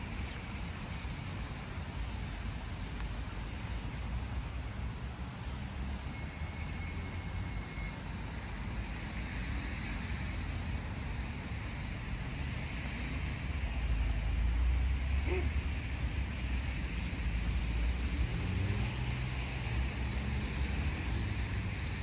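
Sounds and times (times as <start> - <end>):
distant road traffic hum: 0.0 - 22.0.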